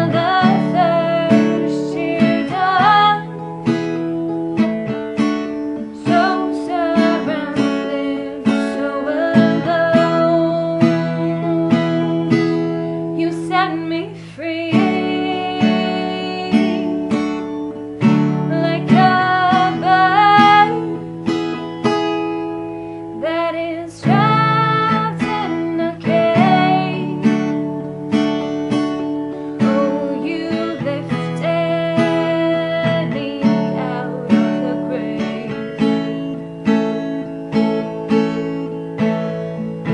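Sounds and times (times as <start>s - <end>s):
woman singing: 0.0s - 22.3s, 23.1s - 39.3s
strummed acoustic guitar: 0.0s - 39.9s.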